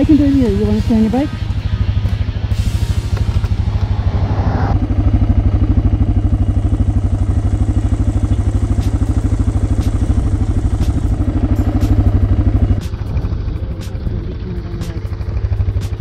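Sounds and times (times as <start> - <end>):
motorcycle engine idling: 0.0 - 4.2, 4.8 - 16.0.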